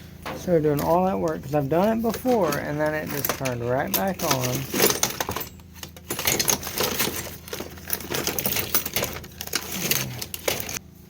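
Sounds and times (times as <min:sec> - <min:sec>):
hand tools clicking and clattering: 0:00.0 - 0:10.8.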